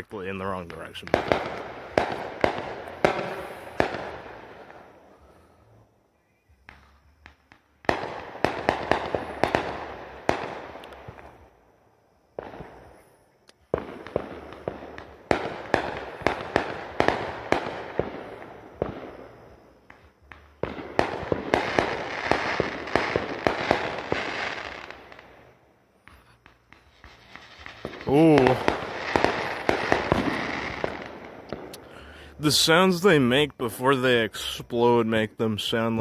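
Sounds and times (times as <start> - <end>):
fireworks bangs and crackling: 0.0 - 5.6, 6.5 - 36.0.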